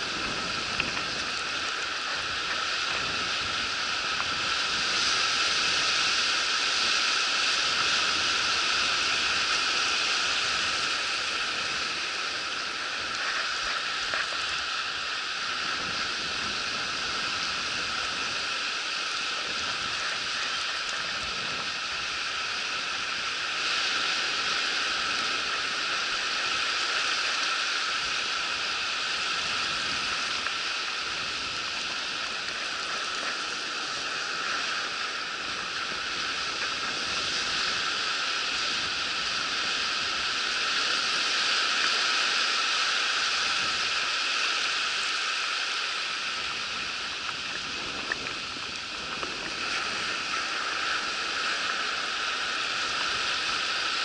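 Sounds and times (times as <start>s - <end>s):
surf washing over sand: 0.0s - 54.0s.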